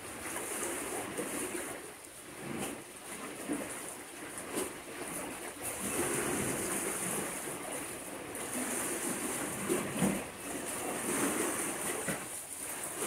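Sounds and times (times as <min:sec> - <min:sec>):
small waves lapping: 0:00.0 - 0:13.0.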